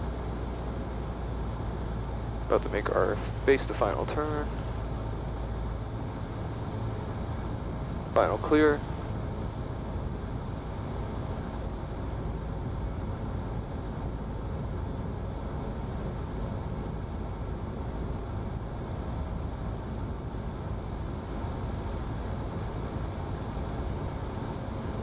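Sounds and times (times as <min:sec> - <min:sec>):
airflow noise: 0:00.0 - 0:25.0
airplane engine drone: 0:00.0 - 0:25.0.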